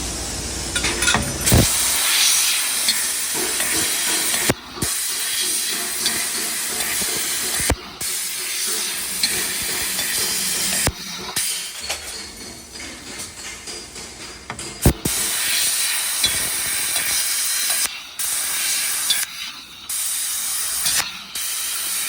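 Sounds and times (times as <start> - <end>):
laser cutter gas jet hissing: 0.1 - 12.8, 14.8 - 22.0.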